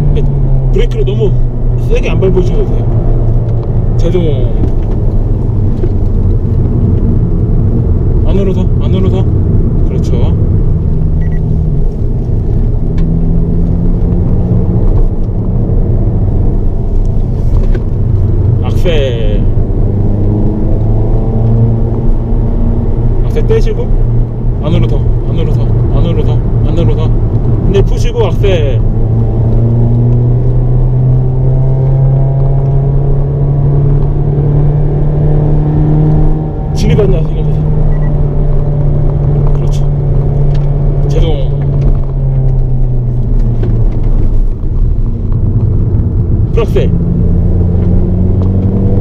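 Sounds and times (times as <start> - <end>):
car engine under load: 0.0 - 49.0
tyre and road noise: 0.0 - 49.0.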